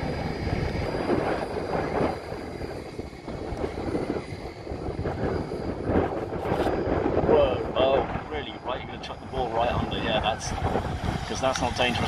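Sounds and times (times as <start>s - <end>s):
distant rc helicopter whine: 0.0s - 12.0s
wind buffeting microphone: 0.0s - 12.0s.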